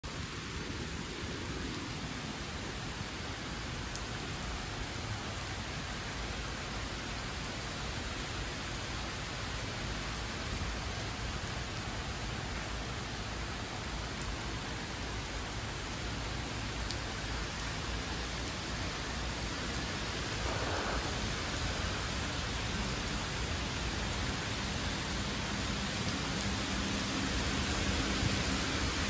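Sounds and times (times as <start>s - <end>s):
steady rain on trees and paving: 0.0s - 29.0s.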